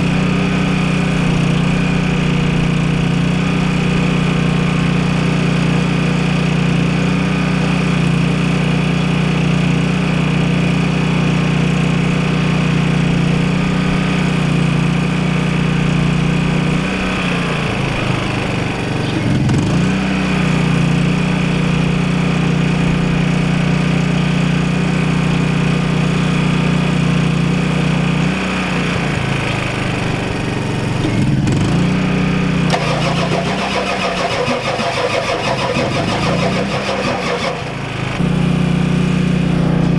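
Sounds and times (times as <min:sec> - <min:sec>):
diesel engine running unevenly: 0:00.0 - 0:39.9.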